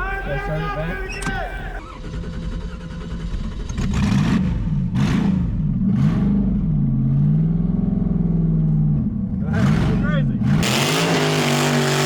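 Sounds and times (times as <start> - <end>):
car engine revving: 1.6 - 12.0.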